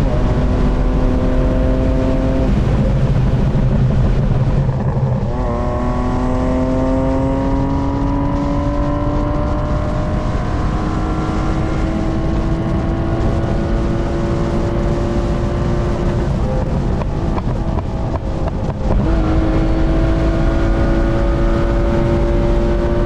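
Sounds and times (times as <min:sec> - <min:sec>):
car engine revving under load: 0:00.0 - 0:23.0.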